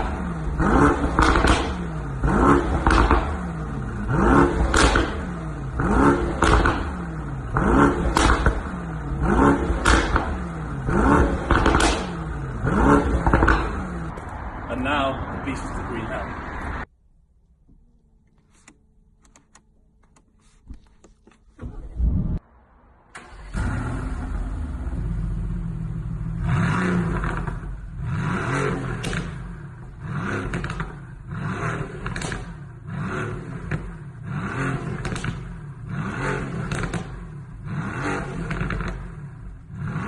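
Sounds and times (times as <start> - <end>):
car engine revving: 0.0 - 16.9, 21.6 - 40.0.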